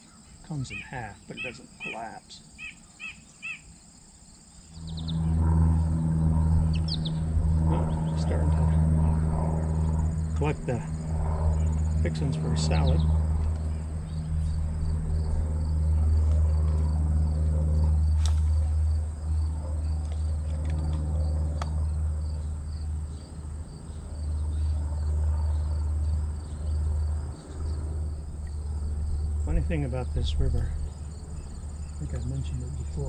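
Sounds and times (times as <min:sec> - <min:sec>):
crickets chirping: 0:00.0 - 0:33.0
low rumble: 0:04.7 - 0:33.0.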